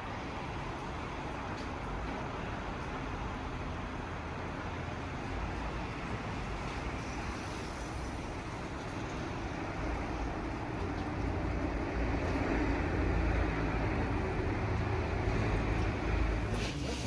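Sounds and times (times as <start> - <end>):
vehicle rumble with hiss: 0.0 - 17.0.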